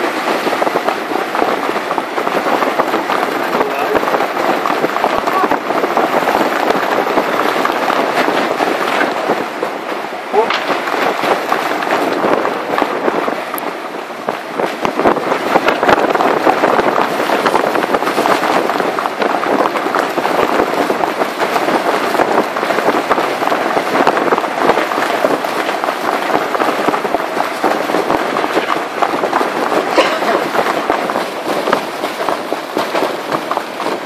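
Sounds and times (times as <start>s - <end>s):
microphone crackling: 0.0s - 34.0s
rough sea: 0.0s - 34.0s
wind rushing: 0.0s - 34.0s.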